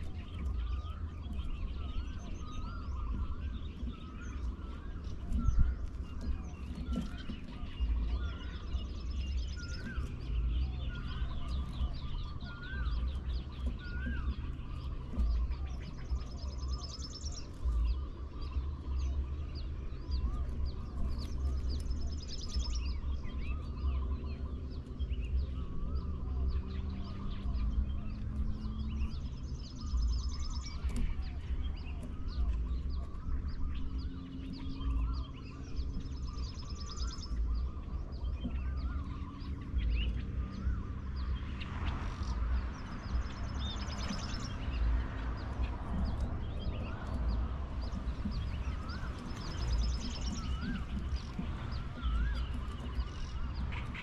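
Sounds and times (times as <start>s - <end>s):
birds chirping and calling: 0.0s - 54.0s
wind rumble on microphone: 0.0s - 54.0s.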